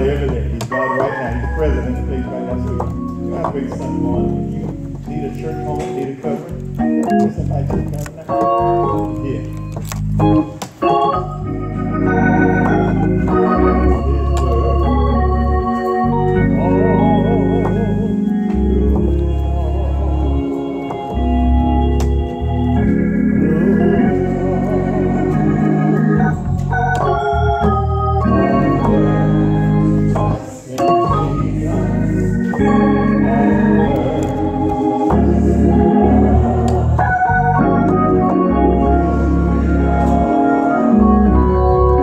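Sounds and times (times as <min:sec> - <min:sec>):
gospel organ chords: 0:00.0 - 0:42.0.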